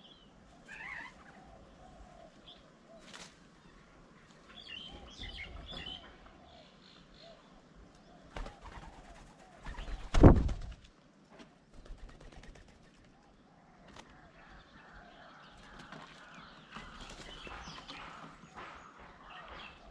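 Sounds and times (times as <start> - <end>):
dove-like cooing: 0.0 - 4.1, 4.7 - 10.6, 11.7 - 19.9
birds chirping: 0.0 - 10.2, 11.7 - 19.9.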